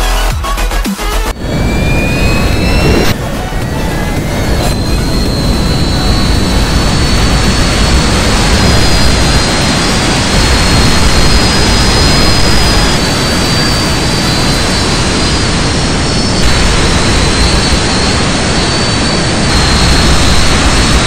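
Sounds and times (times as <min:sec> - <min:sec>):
small jet turbines roaring: 0:01.3 - 0:21.0.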